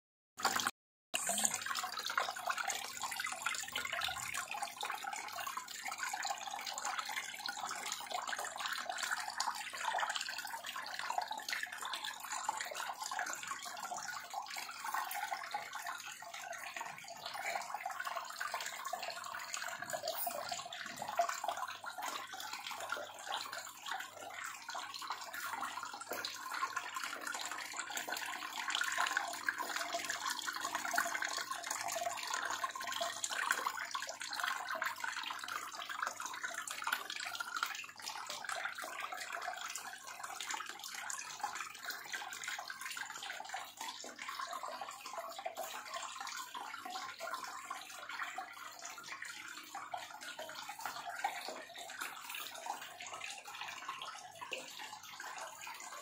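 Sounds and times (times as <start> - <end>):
water splashing and trickling: 0.4 - 56.0.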